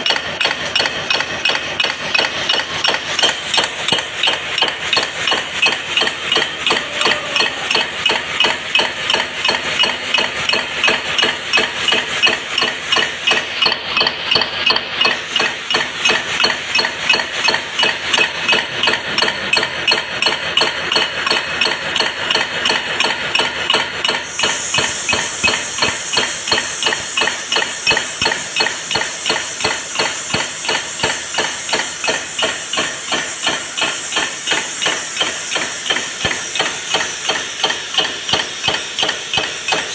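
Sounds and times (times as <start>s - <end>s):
steady knocking: 0.0s - 39.9s.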